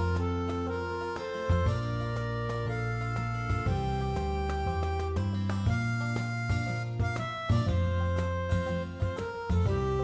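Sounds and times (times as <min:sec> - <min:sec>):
instrumental music with bass line: 0:00.0 - 0:10.0.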